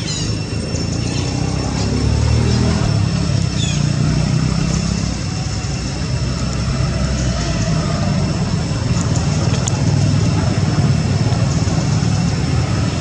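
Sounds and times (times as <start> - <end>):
engine idling hum: 0.0 - 13.0.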